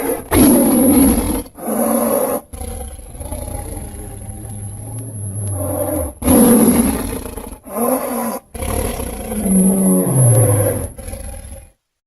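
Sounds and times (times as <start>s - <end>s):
dinosaur roaring: 0.0s - 11.7s.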